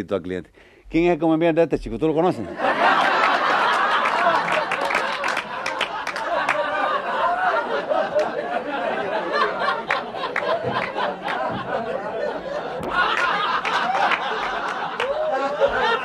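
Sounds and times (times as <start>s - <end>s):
audience laughing: 2.4s - 16.0s.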